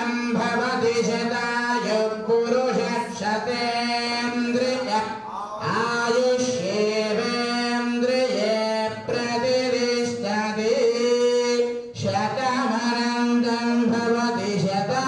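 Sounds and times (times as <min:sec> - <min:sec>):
man singing into microphone: 0:00.0 - 0:15.0.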